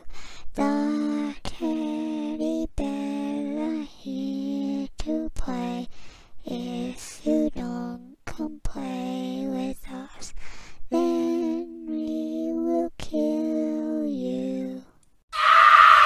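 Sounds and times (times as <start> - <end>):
person singing a lullaby: 0.0 - 15.0.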